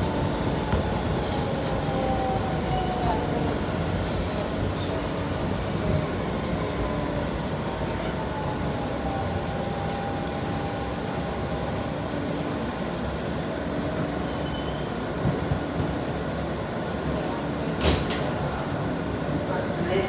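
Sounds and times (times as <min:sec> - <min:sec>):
subway wheels rumbling: 0:00.0 - 0:20.0.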